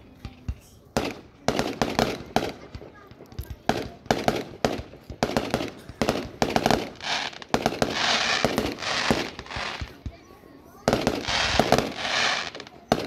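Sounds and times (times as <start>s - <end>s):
fireworks crackle: 0.0s - 13.0s
fireworks bangs: 0.2s - 13.0s.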